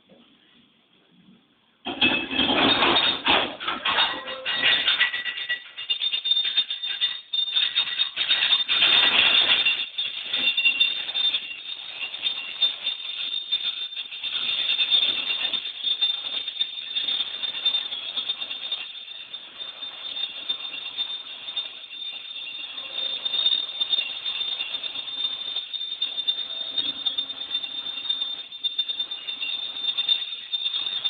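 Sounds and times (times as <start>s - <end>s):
amusement ride metal squealing: 1.9s - 31.0s.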